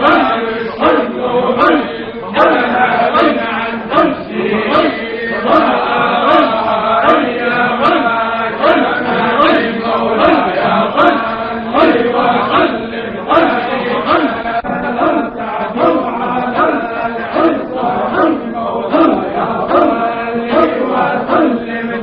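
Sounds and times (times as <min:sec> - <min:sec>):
devotional chanting: 0:00.0 - 0:22.0.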